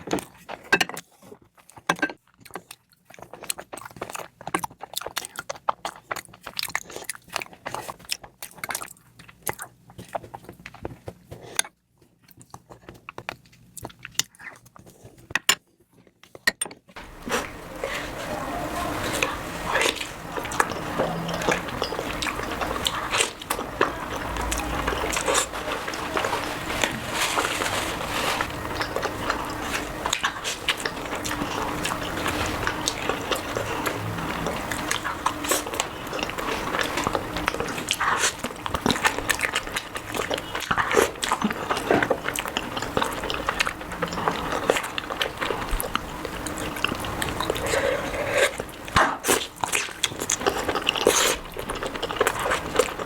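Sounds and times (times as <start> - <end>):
chewing and lip smacking: 1.5 - 15.3, 17.0 - 53.0.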